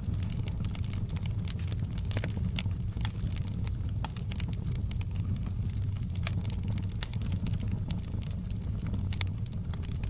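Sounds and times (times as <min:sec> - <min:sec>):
fire crackling and popping: 0:00.0 - 0:10.0
low rumble of flames: 0:00.0 - 0:10.0.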